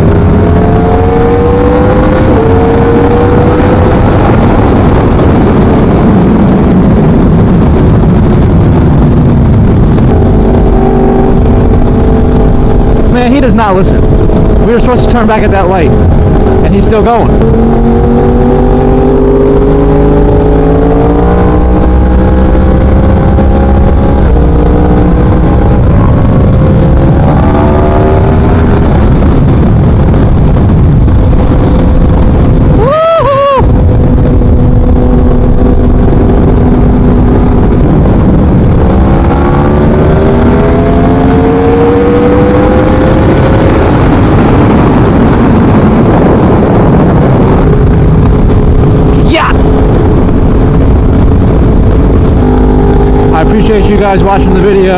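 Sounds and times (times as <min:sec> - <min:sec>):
motorcycle engine revving: 0:00.0 - 0:54.9
wind rush: 0:00.0 - 0:54.9.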